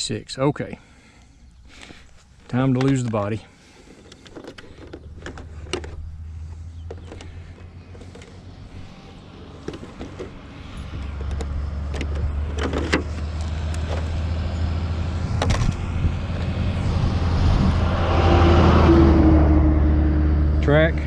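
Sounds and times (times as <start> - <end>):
truck engine approaching: 0.8 - 21.0.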